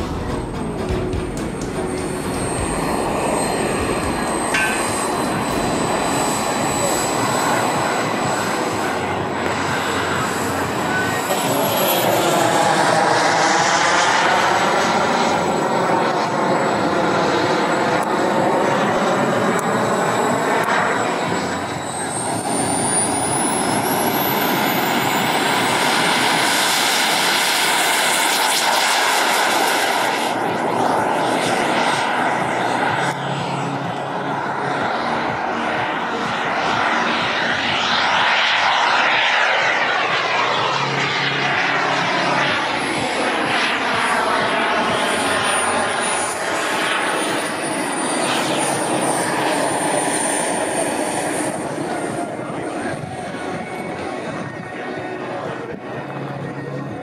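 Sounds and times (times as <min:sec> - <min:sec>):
jet turbine engine roar: 0:00.0 - 0:57.0.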